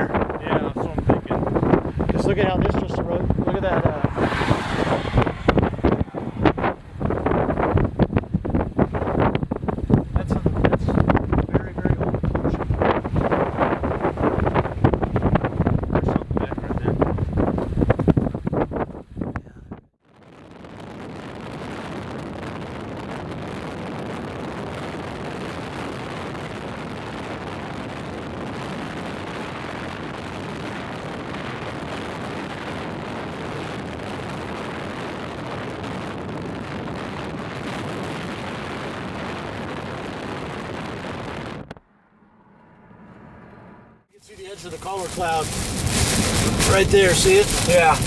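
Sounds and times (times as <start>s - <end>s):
road and wind noise inside vehicle: 0.0s - 48.0s.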